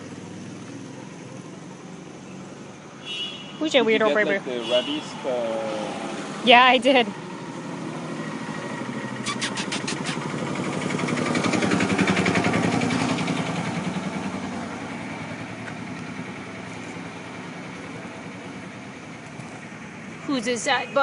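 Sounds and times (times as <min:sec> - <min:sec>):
vehicle engine passing by: 0:00.0 - 0:21.0.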